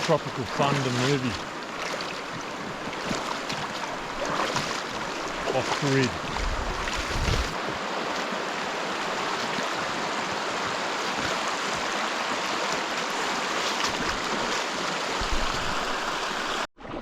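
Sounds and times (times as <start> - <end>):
river water rushing over rocks: 0.0 - 16.7.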